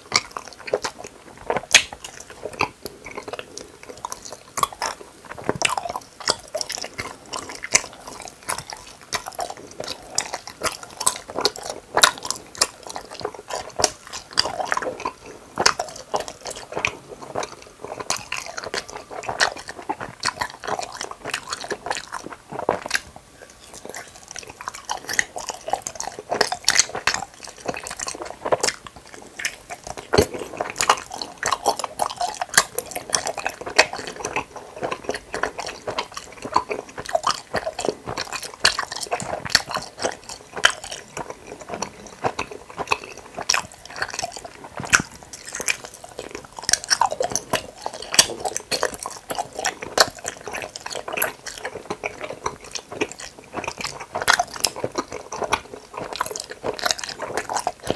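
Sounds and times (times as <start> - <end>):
chewing gummy candies: 0.0 - 57.9.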